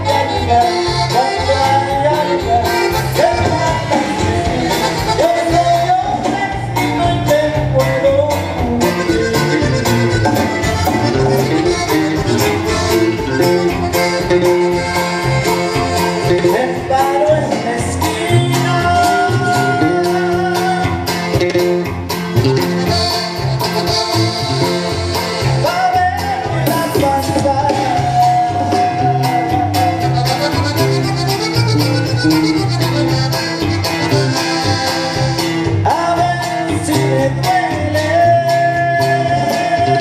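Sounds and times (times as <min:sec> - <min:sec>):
latin dance music: 0:00.0 - 0:40.0.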